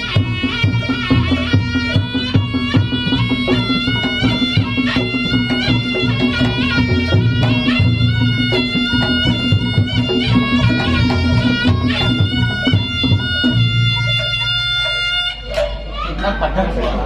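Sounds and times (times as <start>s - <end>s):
drum strikes: 0.0s - 16.0s
reedy wind instrument melody: 0.0s - 16.8s.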